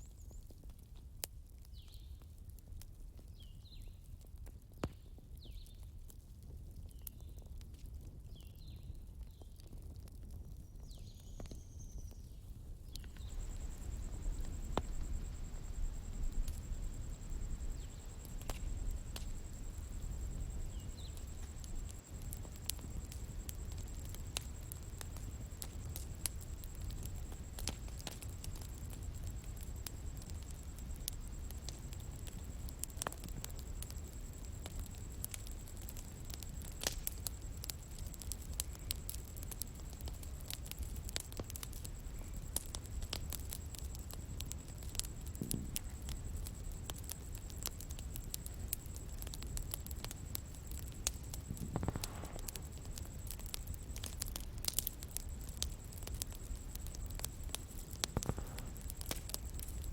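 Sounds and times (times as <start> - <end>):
bonfire crackling and popping: 0.0 - 59.9.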